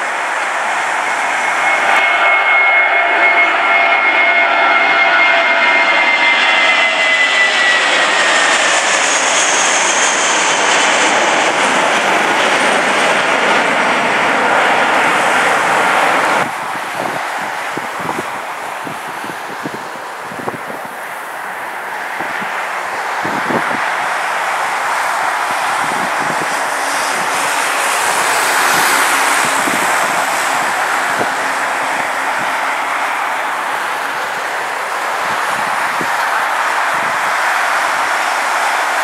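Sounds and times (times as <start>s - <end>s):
jet engines at takeoff: 0.0s - 39.0s.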